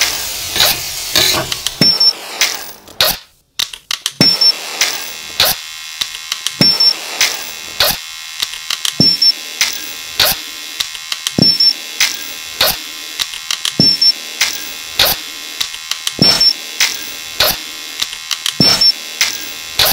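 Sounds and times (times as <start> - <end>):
percussive music of clicks: 0.6 - 19.9.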